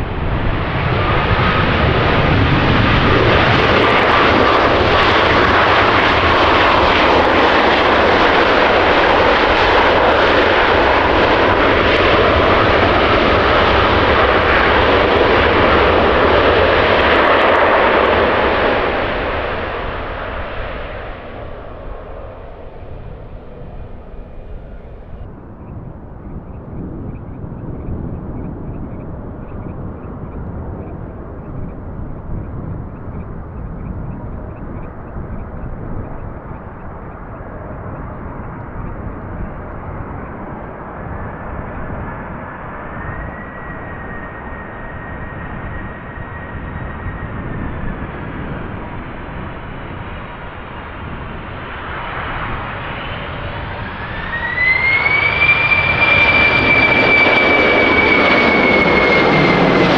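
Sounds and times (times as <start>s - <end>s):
jet engine whine rising: 0.0s - 28.8s, 40.2s - 59.9s
jet engines: 0.0s - 59.9s
low wind rumble: 0.0s - 59.9s.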